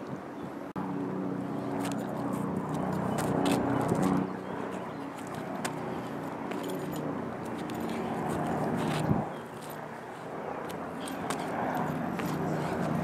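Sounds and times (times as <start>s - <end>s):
low engine hum: 0.5s - 13.0s.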